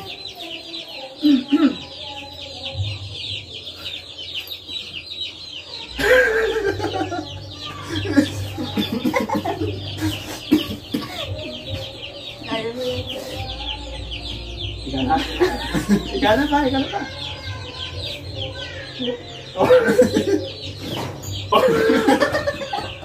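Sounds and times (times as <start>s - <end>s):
chicks peeping: 0.0s - 23.0s
people laughing and calling out: 0.0s - 23.0s.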